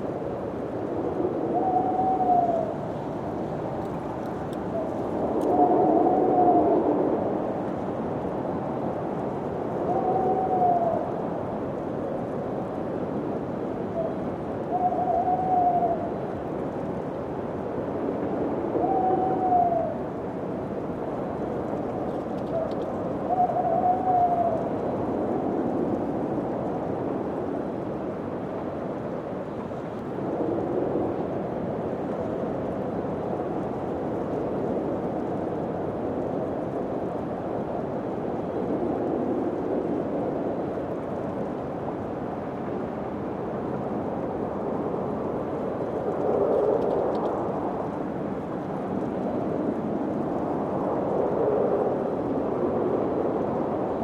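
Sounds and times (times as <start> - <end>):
wind blowing: 0.0 - 54.0.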